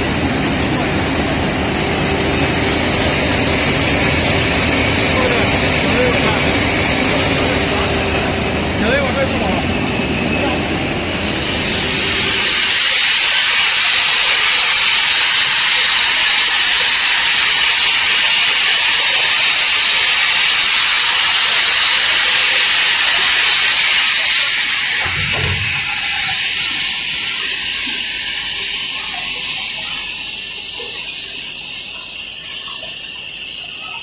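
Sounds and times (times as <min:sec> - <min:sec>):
welding machine hissing: 0:00.0 - 0:34.0.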